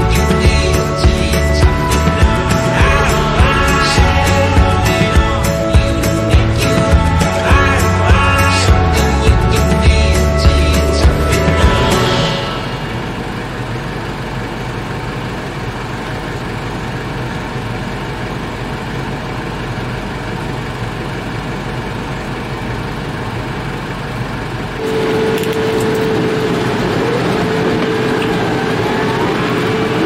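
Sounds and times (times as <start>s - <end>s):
steady whine: 0.0s - 19.4s, 20.0s - 30.0s
tractor engine running: 0.0s - 30.0s.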